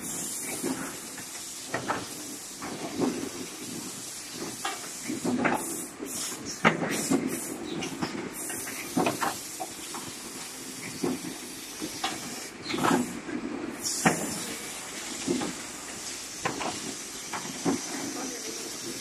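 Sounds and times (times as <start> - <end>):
compressed air hissing: 0.0 - 19.0
pneumatic mechanisms knocking: 0.0 - 19.0.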